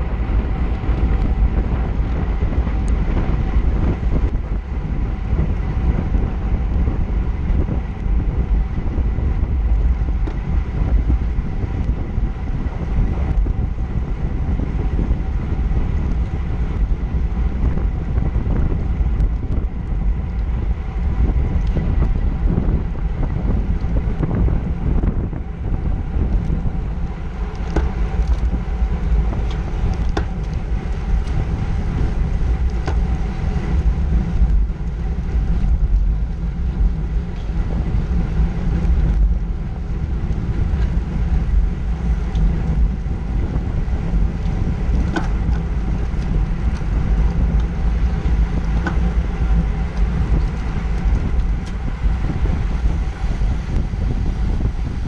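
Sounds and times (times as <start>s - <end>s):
tyres rumbling on asphalt: 0.0s - 55.0s
wind buffeting microphone: 0.0s - 55.0s.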